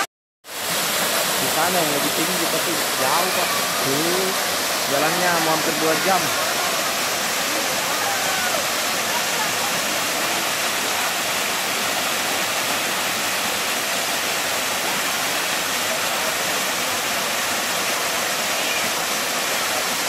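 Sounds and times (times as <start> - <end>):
waterfall pouring over rocks: 0.0 - 20.0.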